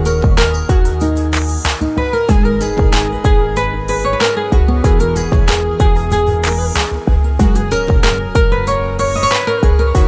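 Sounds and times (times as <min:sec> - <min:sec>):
mellow music with plucked guitar: 0:00.0 - 0:10.0.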